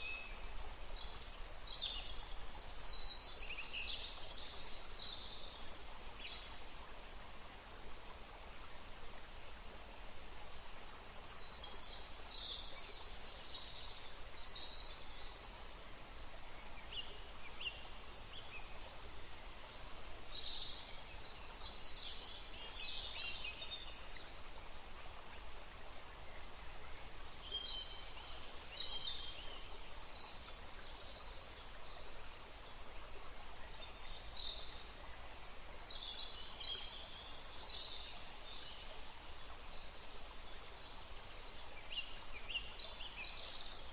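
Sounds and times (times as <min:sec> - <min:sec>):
songbirds chirping: 0:00.0 - 0:43.9
steady background hiss: 0:00.0 - 0:43.9.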